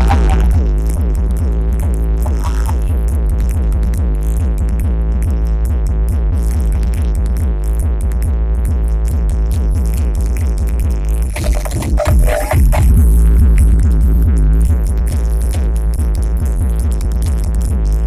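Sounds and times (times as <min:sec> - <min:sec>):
electronic dance music: 0:00.0 - 0:18.0
heavy bass beat: 0:00.0 - 0:18.0.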